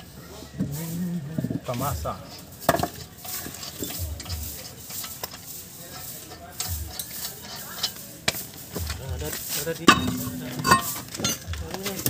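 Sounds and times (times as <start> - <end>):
lug nuts clicking and scraping: 1.8 - 12.0.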